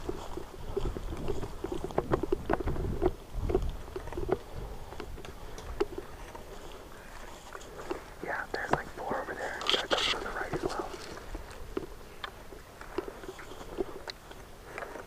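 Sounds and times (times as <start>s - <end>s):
footsteps crunching through dry grass: 0.0s - 15.0s
wind rumble on microphone: 0.0s - 15.0s.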